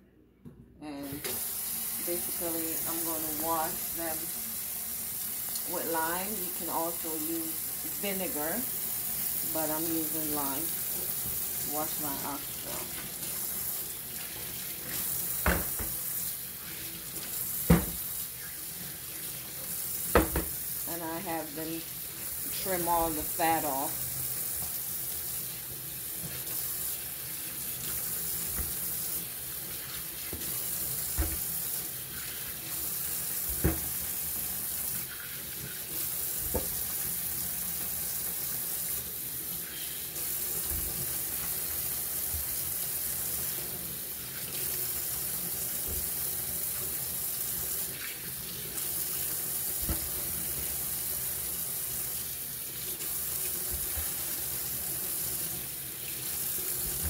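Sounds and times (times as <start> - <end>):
faucet running into steel sink: 1.0 - 57.0.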